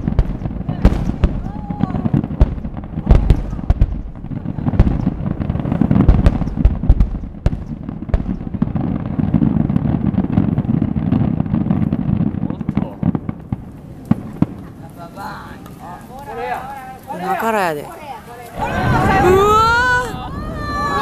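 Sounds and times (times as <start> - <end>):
fireworks cracks and booms: 0.0 - 17.5, 18.4 - 21.0.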